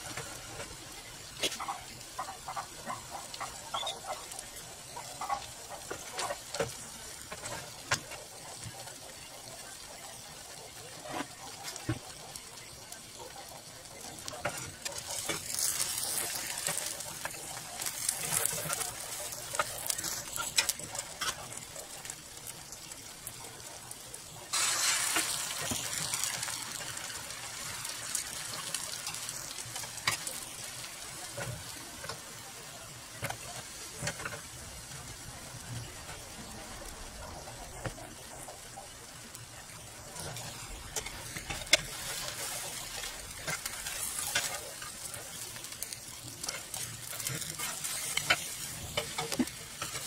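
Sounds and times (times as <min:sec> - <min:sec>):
beaten egg sizzling: 0:00.0 - 0:50.0
egg crackling in a pan: 0:00.0 - 0:50.0.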